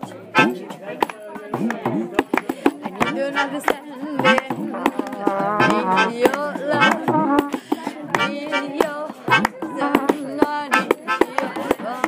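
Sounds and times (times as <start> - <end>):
hand claps: 0.0 - 12.0
hand drums: 0.0 - 12.0
people singing: 0.0 - 12.0
people talking: 0.0 - 12.0.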